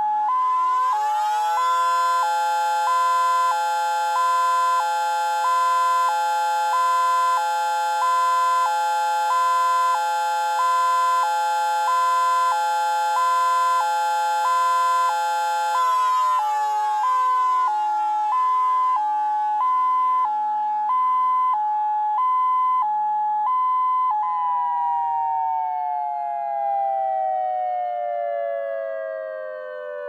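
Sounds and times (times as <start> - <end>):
electronic hi-lo warning siren: 0.0 - 30.0
mechanical siren steady tone: 0.0 - 30.0.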